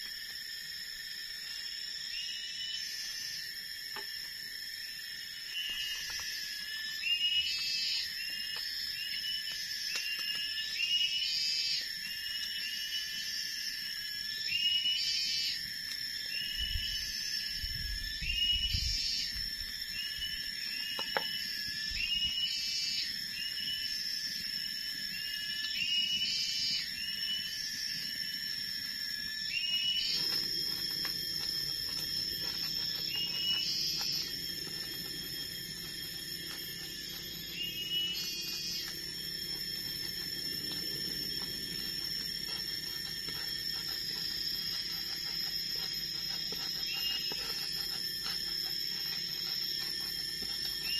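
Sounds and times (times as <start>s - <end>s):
high-pitched insect drone: 0.0s - 50.9s.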